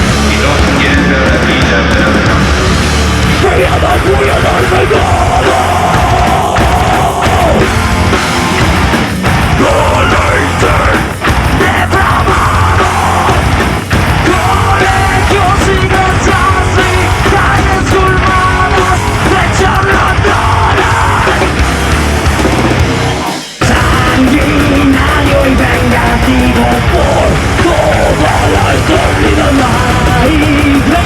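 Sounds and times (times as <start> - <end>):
harsh shouted vocal: 0.0 - 31.0
heavy metal band playing: 0.0 - 31.0.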